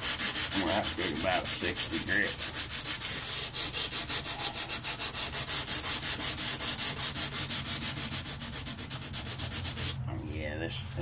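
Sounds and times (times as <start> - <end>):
sandpaper rubbing on steel blade: 0.0 - 10.0.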